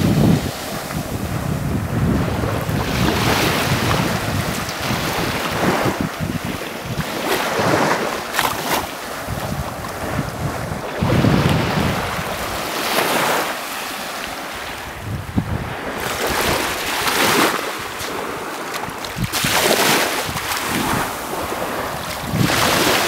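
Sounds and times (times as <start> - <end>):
small waves washing on sand: 0.0 - 23.0
wind rumbling on microphone: 0.0 - 23.0.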